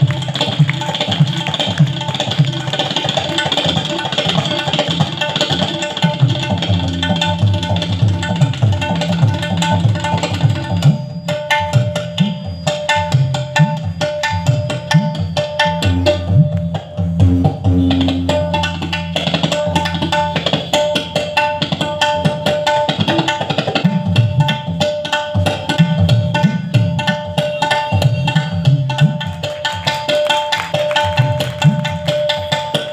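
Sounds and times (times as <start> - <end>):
tabla strokes: 0.0 - 32.9.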